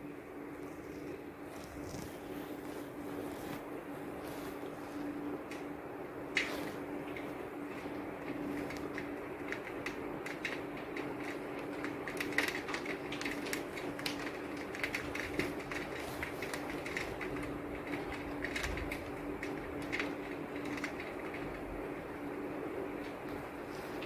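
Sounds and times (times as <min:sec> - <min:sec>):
faint steady hum: 0:00.0 - 0:24.0
rain pattering: 0:00.1 - 0:24.0.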